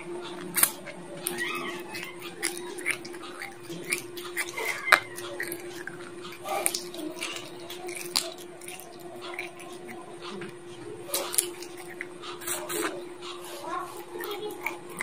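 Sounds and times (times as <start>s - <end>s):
bone crunching between teeth: 0.0s - 15.0s
wet chewing: 0.0s - 15.0s.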